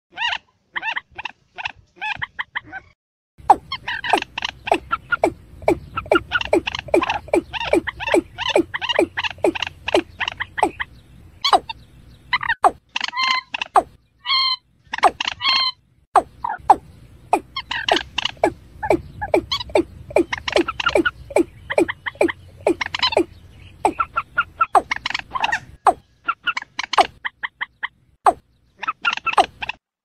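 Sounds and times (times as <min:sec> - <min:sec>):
bird calling: 0:00.2 - 0:29.8.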